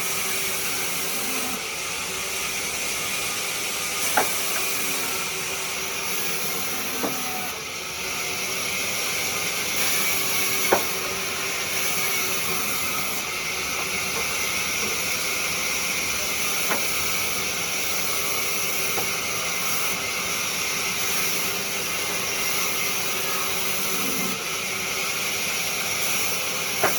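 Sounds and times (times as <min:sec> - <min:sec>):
wood lathe hissing: 0:00.0 - 0:26.9.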